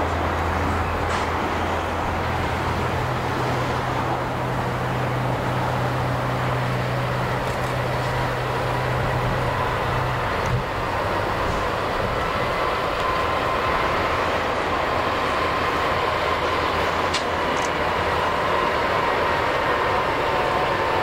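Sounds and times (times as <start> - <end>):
locomotive engine hum: 0.0 - 21.0
rail rolling noise: 0.0 - 21.0.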